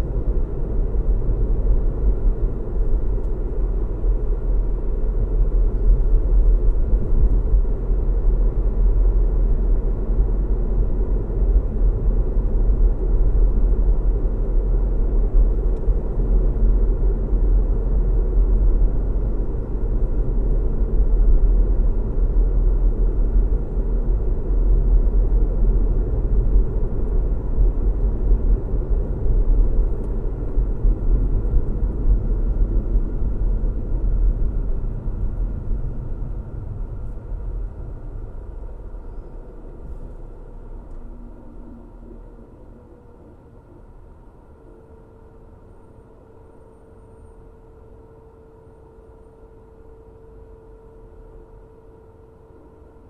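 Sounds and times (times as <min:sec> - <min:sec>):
car road and engine rumble: 0:00.0 - 0:48.3.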